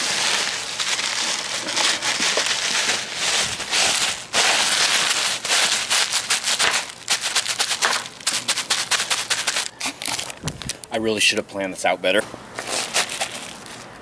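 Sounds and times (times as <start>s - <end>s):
bubble wrap crinkling: 0.0s - 10.9s, 12.6s - 13.9s.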